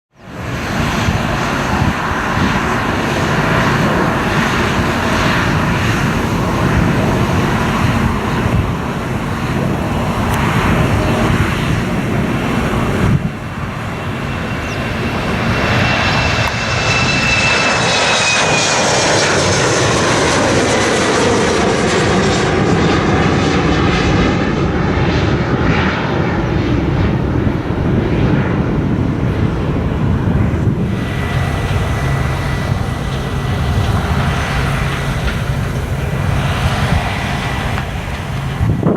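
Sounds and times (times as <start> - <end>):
jet airliner taking off: 0.1 - 38.9
jet passing with engine whine: 0.1 - 38.9.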